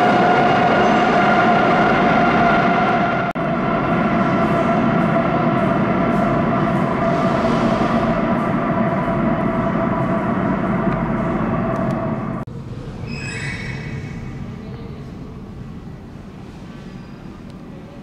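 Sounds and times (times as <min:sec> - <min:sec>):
metro train rumbling in tunnel: 0:00.0 - 0:18.0.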